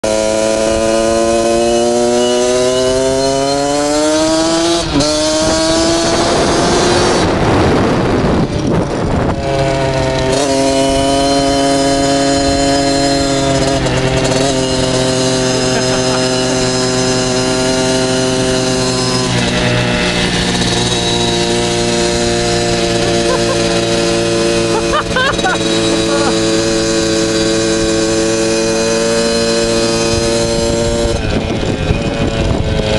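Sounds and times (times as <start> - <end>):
dirt bike engine accelerating: 0.0 - 32.9.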